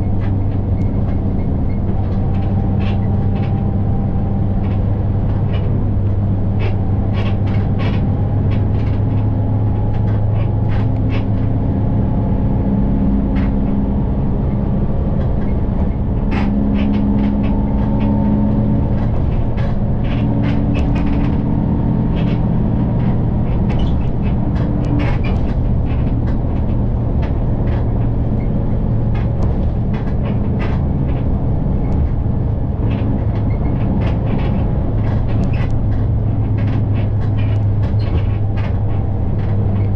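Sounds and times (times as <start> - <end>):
bus drivetrain hum: 0.0 - 39.9
rattles of bus fittings: 0.0 - 39.9
road noise: 0.0 - 39.9.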